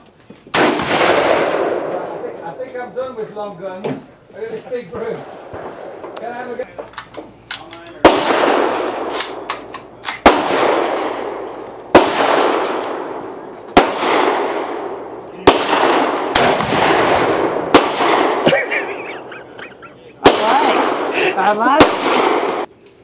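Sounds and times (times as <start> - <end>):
rifle shots echoing: 0.5 - 2.6, 5.0 - 19.5, 20.2 - 22.7.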